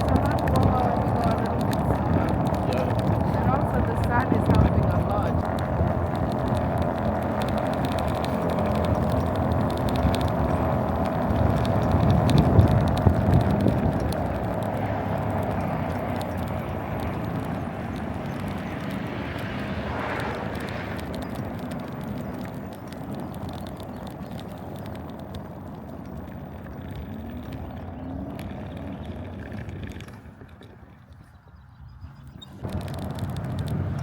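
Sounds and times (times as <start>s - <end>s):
mini bike engine running: 0.0s - 34.0s
tyre noise: 0.0s - 34.0s
wind noise: 0.0s - 34.0s.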